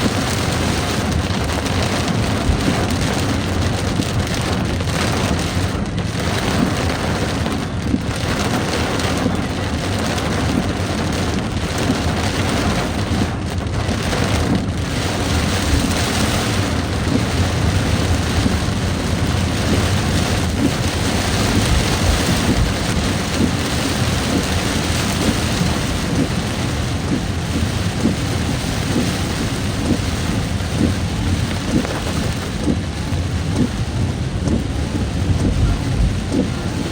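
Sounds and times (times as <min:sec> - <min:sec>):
heavy rain pouring: 0:00.0 - 0:36.9
low rumble: 0:00.0 - 0:36.9.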